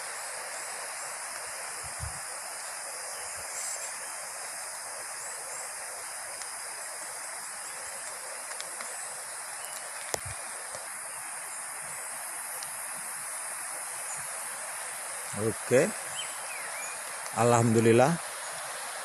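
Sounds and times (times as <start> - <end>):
water rushing in a stream: 0.0 - 19.0.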